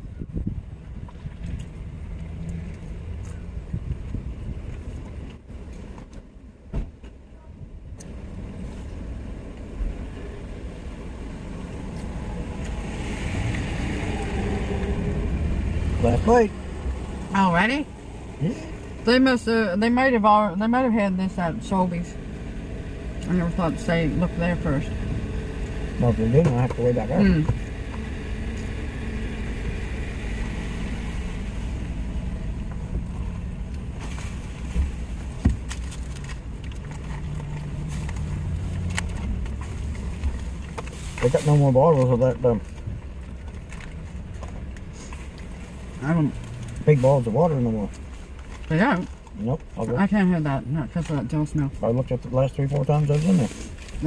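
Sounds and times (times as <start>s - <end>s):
engine rumble inside vehicle cabin: 0.0s - 54.0s.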